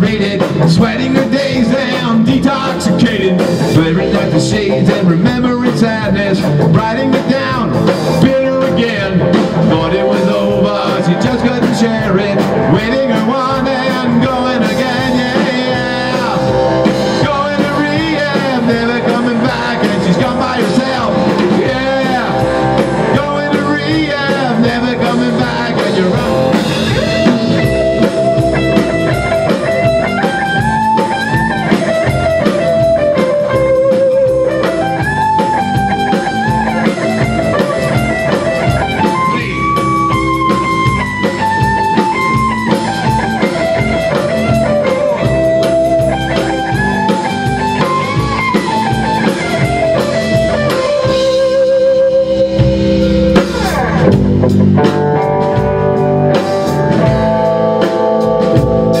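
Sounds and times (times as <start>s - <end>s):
drum kit: 0.0s - 59.0s
electric guitars: 0.0s - 59.0s
lead guitar melody: 0.0s - 59.0s.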